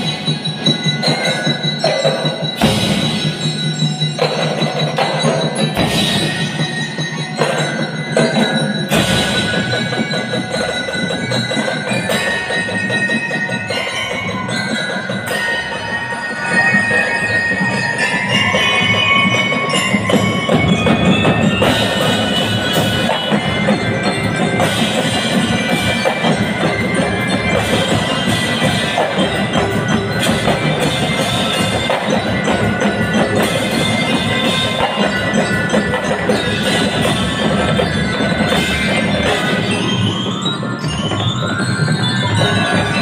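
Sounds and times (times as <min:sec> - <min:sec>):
bell lyres playing melody: 0:00.0 - 0:43.0
drums playing: 0:00.0 - 0:43.0.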